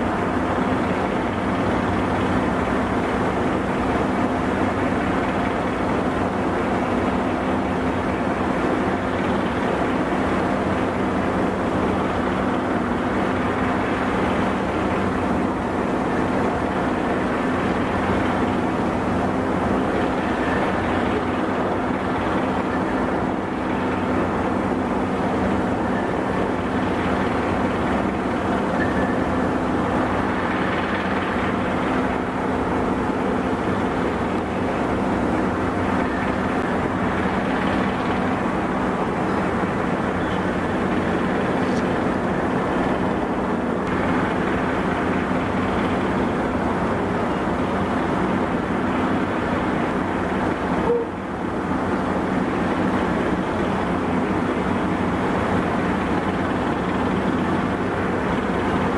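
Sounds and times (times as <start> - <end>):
ship engines droning: 0.0 - 58.9.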